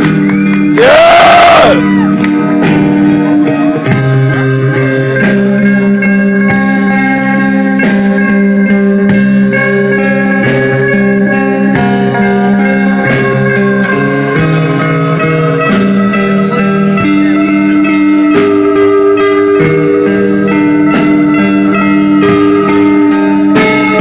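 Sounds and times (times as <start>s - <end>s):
held electric guitar notes: 0.0s - 24.0s
steady drum beat: 0.0s - 24.0s.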